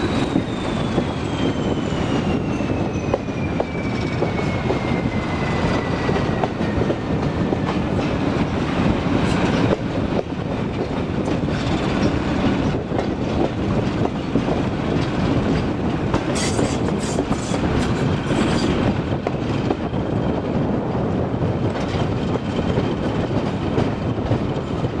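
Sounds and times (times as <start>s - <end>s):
locomotive engine and wheels rumbling: 0.0s - 25.0s
rail joints clacking: 0.0s - 25.0s.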